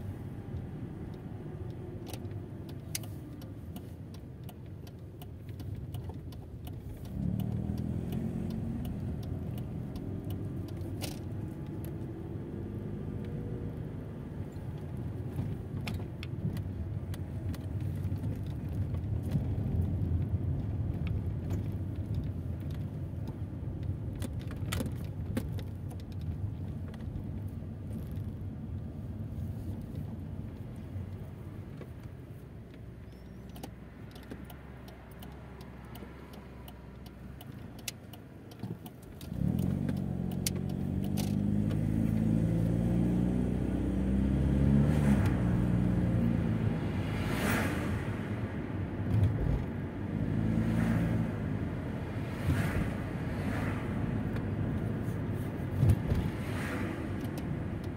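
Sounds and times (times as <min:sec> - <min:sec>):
car engine and road noise: 0:00.0 - 0:57.9.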